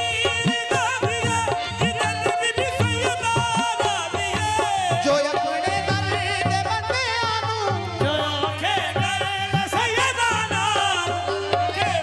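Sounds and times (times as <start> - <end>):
harmonium note: 0.0 - 12.0
person singing ornamented lines: 0.0 - 12.0.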